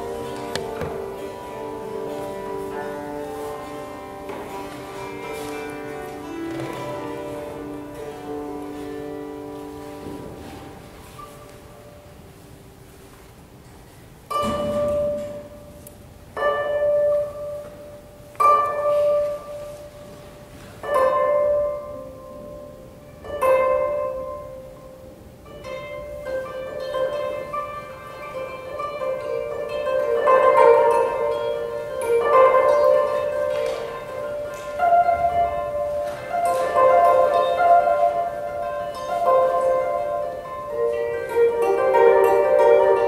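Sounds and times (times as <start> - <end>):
sitar and koto plucking: 0.0 - 43.0.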